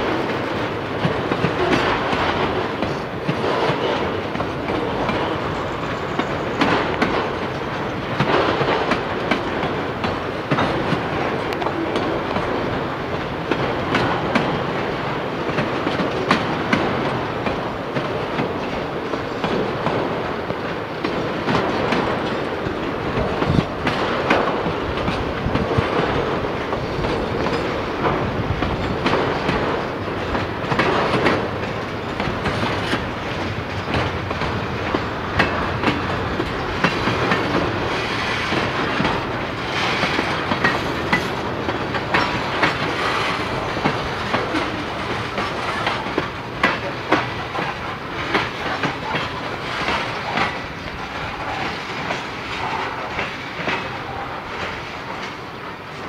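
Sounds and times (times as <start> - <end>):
wheels clanking over rail joints: 0.0 - 55.7
train wheels rumbling on rail: 0.0 - 56.0.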